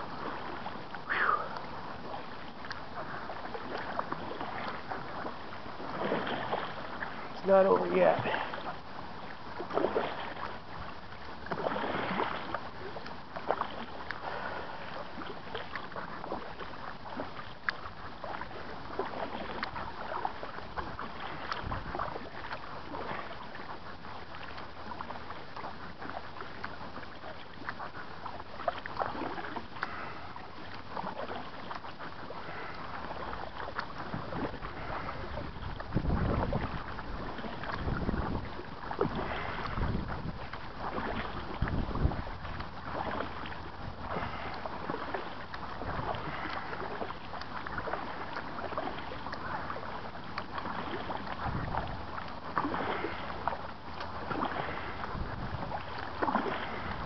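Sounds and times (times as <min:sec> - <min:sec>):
paddle splashing in water: 0:00.0 - 0:57.0
river water noise: 0:00.0 - 0:57.0.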